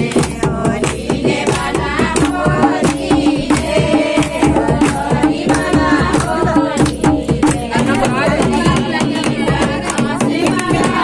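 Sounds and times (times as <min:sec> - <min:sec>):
fast drum beats: 0:00.0 - 0:11.0.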